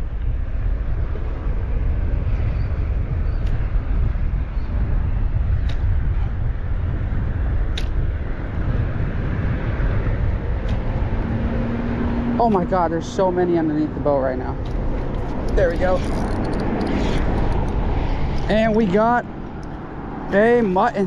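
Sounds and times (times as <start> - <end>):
low rumbling outdoor noise: 0.0 - 21.0.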